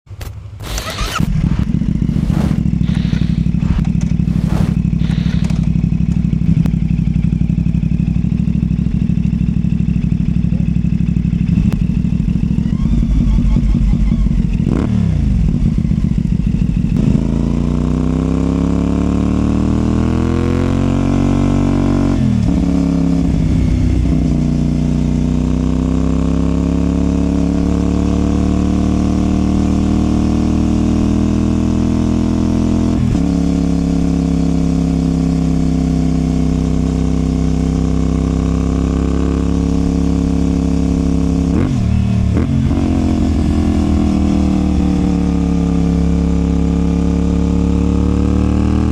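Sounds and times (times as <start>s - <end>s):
motorcycle engine accelerating: 0.1s - 48.9s.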